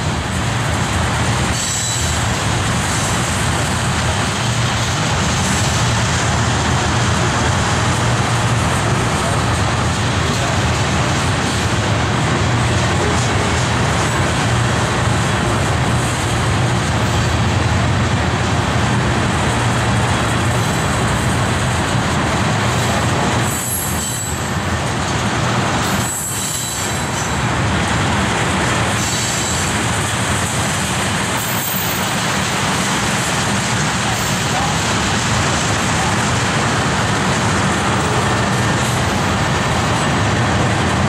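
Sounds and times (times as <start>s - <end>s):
freight train wheels on rails: 0.0s - 41.0s.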